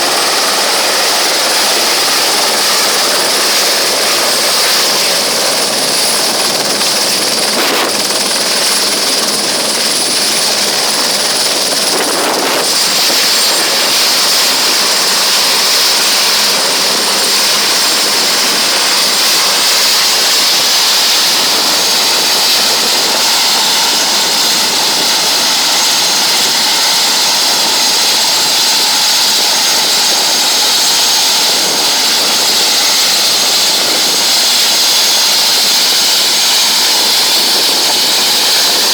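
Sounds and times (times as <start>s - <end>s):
helicopter turbine rush and whine: 0.0s - 38.9s.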